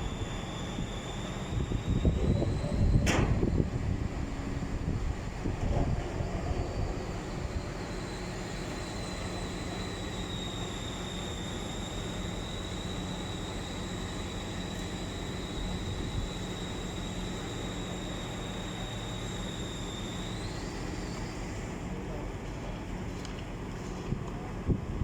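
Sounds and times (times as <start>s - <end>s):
faint high whine: 0.0s - 21.8s
machine hum and rush: 0.0s - 25.0s.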